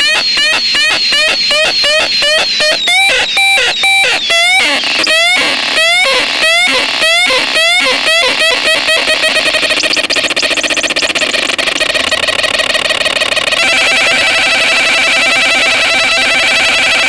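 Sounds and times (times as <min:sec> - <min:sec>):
synthesizer pitch sweeps: 0:00.0 - 0:17.0.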